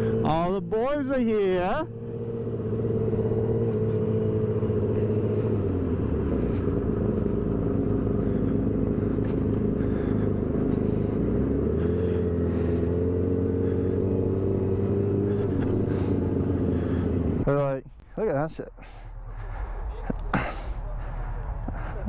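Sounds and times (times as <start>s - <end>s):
motorcycle engine running at low revs: 0.0s - 22.0s.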